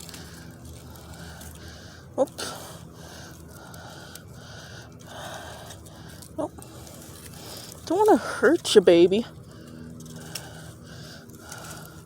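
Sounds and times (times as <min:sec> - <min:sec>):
person breathing: 0:00.0 - 0:07.9, 0:09.3 - 0:12.0.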